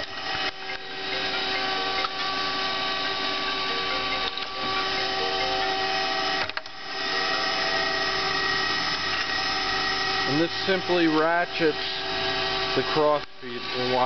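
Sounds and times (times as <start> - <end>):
grinder machine whine: 0.0 - 14.0.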